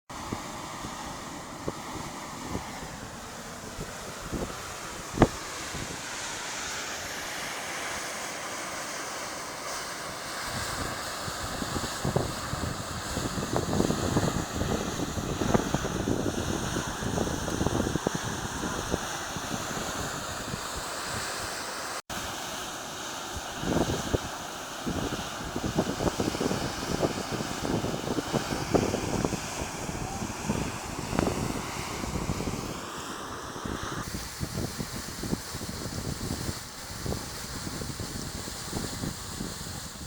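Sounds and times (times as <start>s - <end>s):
fumarole venting steam hiss: 0.1s - 40.0s
wind buffeting microphone: 0.2s - 6.3s, 10.5s - 21.3s, 23.5s - 40.0s.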